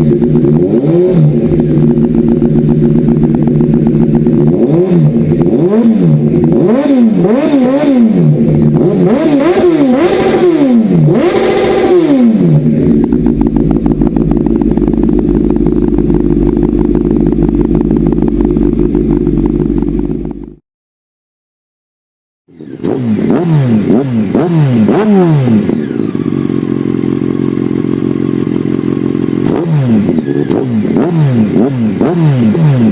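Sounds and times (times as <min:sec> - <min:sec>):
motorcycle engine revving and idling: 0:00.0 - 0:20.6, 0:22.5 - 0:32.9.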